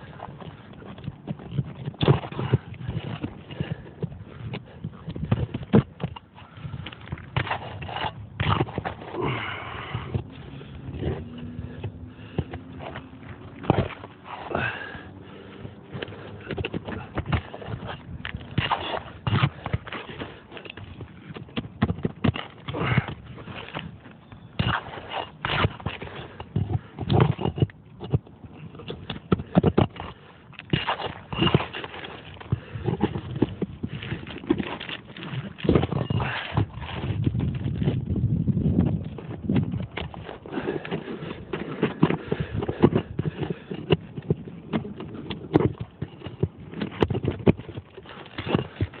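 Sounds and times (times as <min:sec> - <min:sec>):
tool scraping roof shingles: 0:00.0 - 0:49.0.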